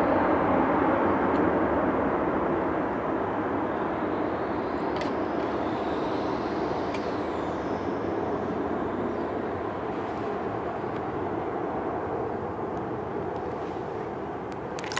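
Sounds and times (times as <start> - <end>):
jet engines deep rumble: 0.0 - 14.9.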